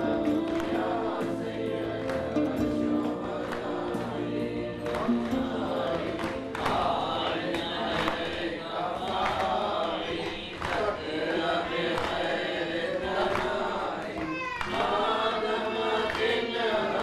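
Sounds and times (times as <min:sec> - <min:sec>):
group chanting: 0:00.0 - 0:17.0.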